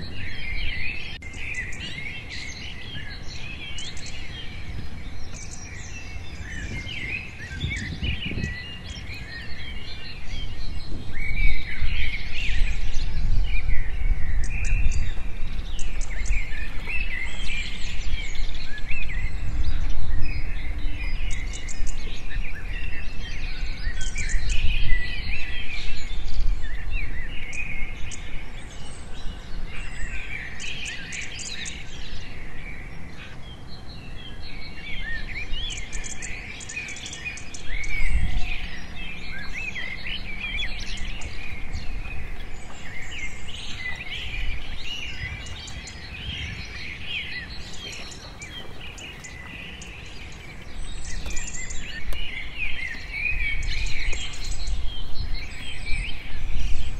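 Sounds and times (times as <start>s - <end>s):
small birds chirping and trilling: 0.0s - 56.9s.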